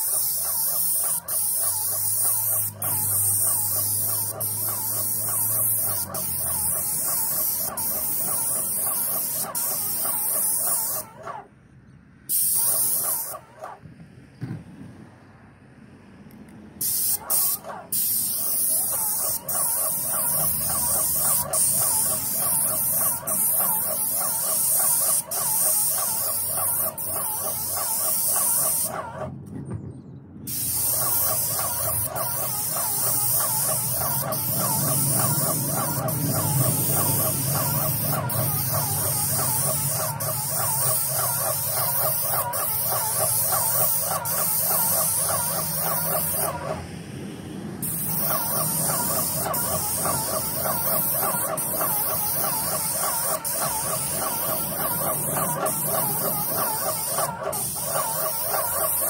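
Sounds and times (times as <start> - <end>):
paint spray gun hissing: 0.0 - 11.4, 12.3 - 13.5, 16.8 - 29.3, 30.5 - 46.8, 47.8 - 59.0.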